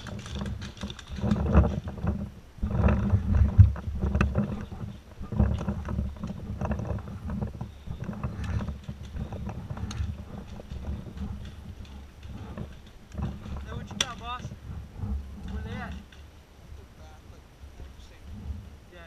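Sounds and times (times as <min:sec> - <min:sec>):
sharp clicks and knocks: 0:00.0 - 0:16.3
wind rumbling on microphone: 0:00.0 - 0:19.0.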